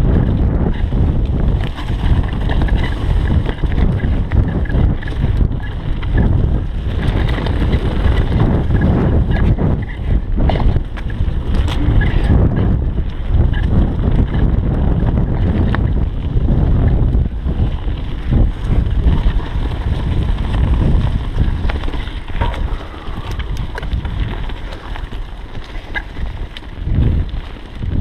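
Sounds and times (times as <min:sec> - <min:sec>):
bike tyres rumbling on dirt: 0:00.0 - 0:28.0
wind buffeting microphone: 0:00.0 - 0:28.0.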